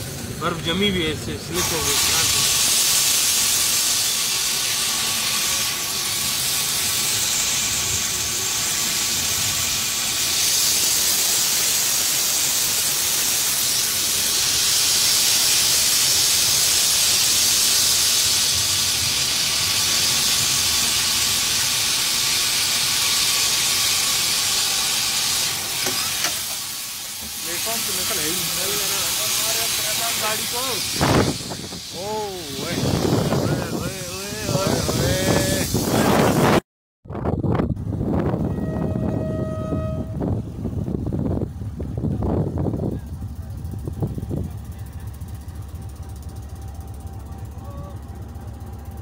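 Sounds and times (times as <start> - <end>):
train cab running noise: 0.0 - 36.6, 37.4 - 49.0.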